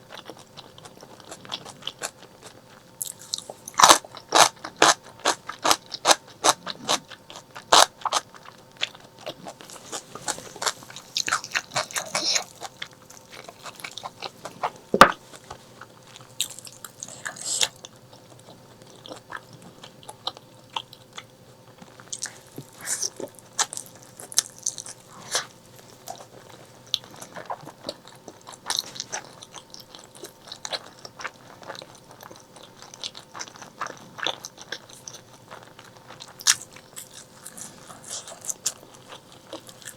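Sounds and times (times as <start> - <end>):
chewing and biting meat: 0.0 - 39.9.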